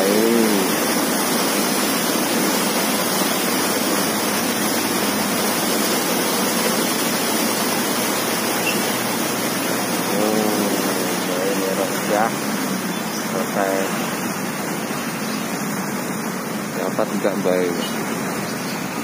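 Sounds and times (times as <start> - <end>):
water rushing through gate: 0.0 - 19.0.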